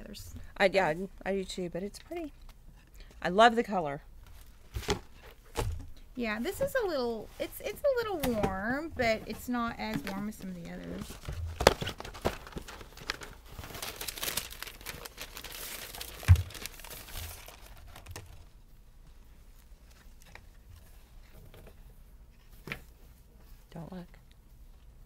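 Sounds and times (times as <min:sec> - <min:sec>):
wig crinkling and rustling: 0:04.2 - 0:25.0.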